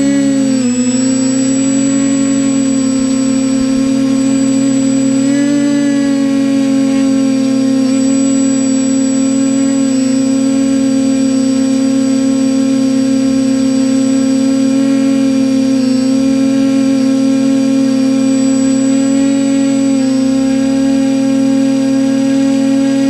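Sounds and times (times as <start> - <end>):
high electronic whine: 0.0 - 23.0
quadcopter motors whining: 0.0 - 23.0.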